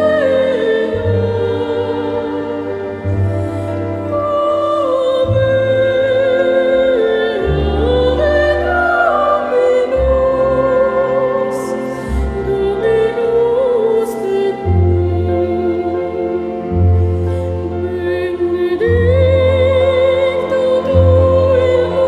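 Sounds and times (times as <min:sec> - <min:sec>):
operatic singing: 0:00.0 - 0:22.0
orchestral accompaniment: 0:00.0 - 0:22.0.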